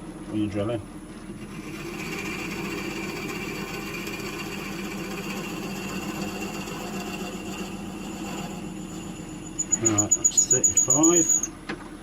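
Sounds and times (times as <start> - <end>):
wood lathe motor hum: 1.4 - 11.6
drill bit boring into wood: 1.5 - 11.5.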